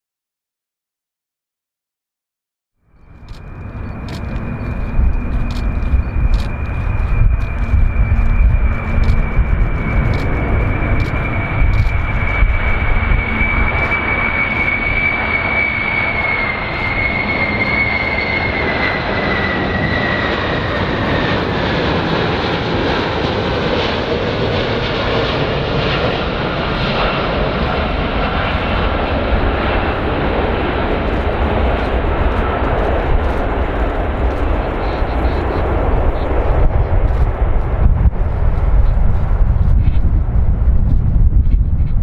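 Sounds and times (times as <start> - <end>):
jet engines rumbling and whining: 2.8 - 42.0.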